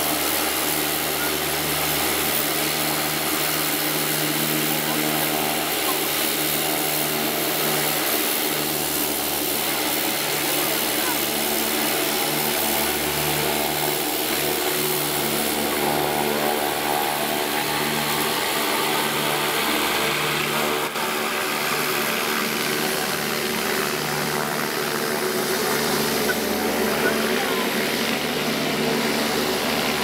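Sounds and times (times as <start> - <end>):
turboprop engine running: 0.0 - 30.0.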